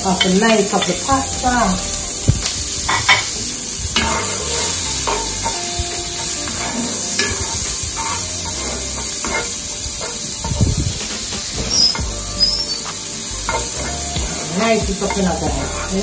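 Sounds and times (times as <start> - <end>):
vegetables sizzling in butter: 0.0 - 16.0.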